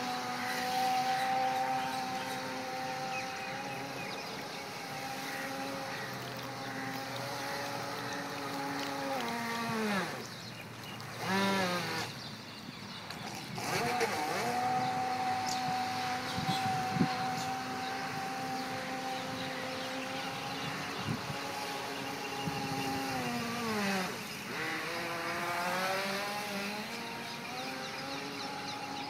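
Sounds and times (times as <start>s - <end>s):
model boat motor whining: 0.0s - 29.0s.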